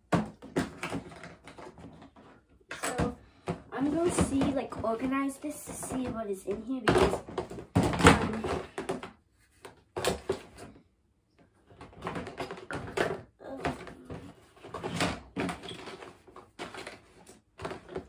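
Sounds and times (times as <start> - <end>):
plastic items rattling in a tub: 0.0 - 9.2, 11.6 - 18.0.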